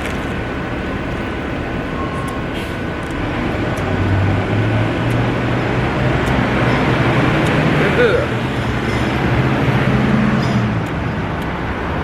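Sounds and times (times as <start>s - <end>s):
city traffic noise: 0.0s - 12.0s
vehicle engine humming: 0.0s - 12.0s.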